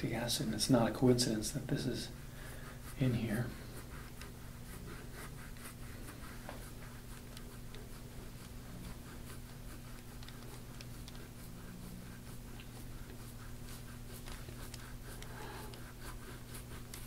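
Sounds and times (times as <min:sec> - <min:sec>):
low steady hum: 0:00.0 - 0:17.0
scraping tool on oiled skin: 0:00.8 - 0:17.0.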